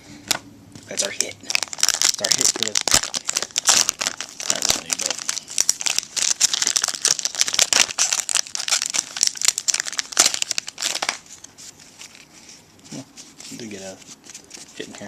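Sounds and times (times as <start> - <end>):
plastic wrapping crinkling: 0.9 - 15.0.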